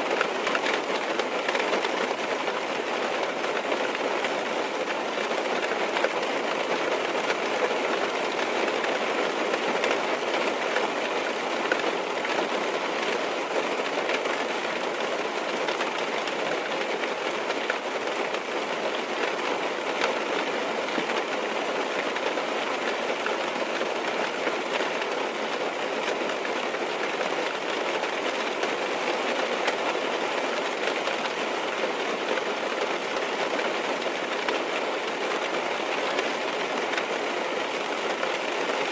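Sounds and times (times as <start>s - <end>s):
rain on car roof: 0.0s - 38.9s.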